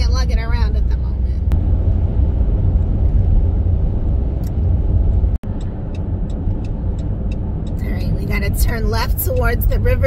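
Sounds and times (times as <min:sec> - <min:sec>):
car road noise from inside: 0:00.0 - 0:10.0.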